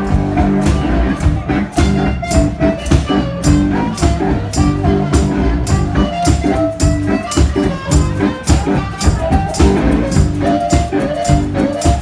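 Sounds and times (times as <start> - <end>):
blues-rock band playing: 0.0 - 12.0.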